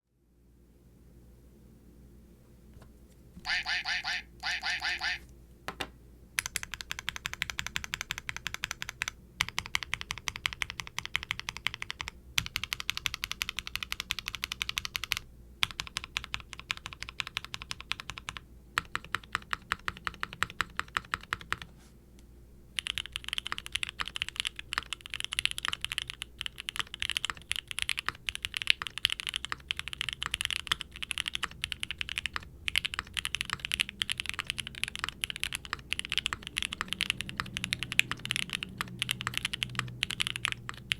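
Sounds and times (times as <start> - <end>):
typing on mechanical keyboard: 6.4 - 21.7, 22.8 - 40.9.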